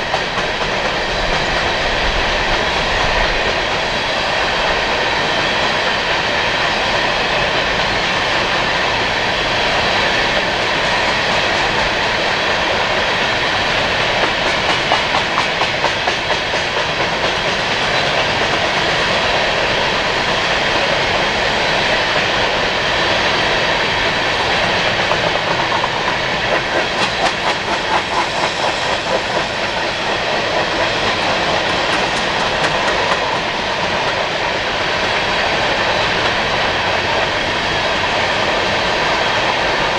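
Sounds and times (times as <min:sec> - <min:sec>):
rumble of train wheels on rail: 0:00.0 - 0:39.9.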